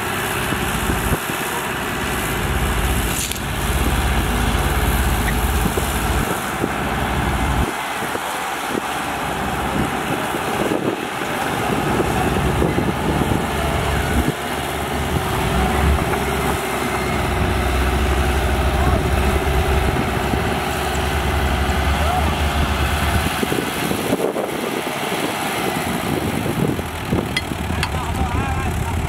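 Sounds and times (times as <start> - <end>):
bulldozer diesel engines running: 0.0 - 29.0.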